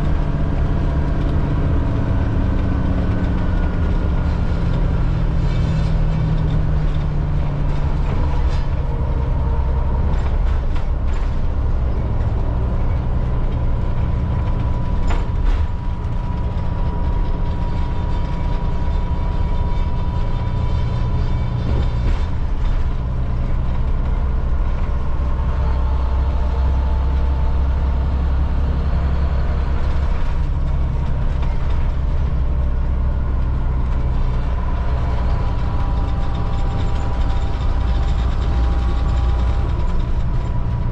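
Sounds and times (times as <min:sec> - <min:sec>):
diesel bus engine rumbling: 0:00.0 - 0:40.9.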